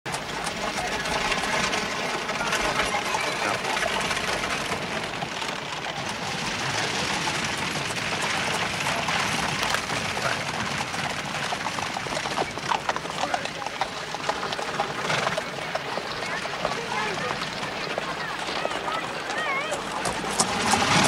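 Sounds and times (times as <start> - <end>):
clatter of knocks and rattles: 0.1 - 21.0
distant voices of crowd: 0.1 - 21.0.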